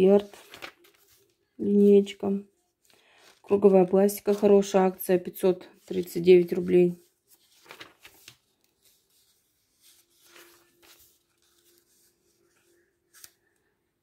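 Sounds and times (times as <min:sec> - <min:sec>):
catalogue pages rustling: 0:00.0 - 0:13.6.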